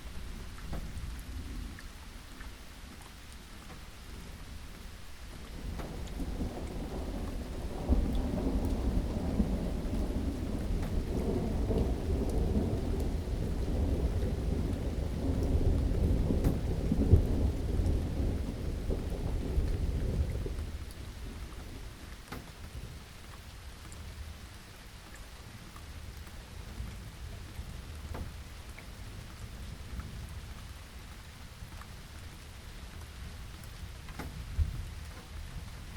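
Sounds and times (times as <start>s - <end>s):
low rumble of thunder: 0.0s - 2.6s, 3.7s - 24.6s, 25.9s - 35.9s
steady rain: 0.0s - 35.9s.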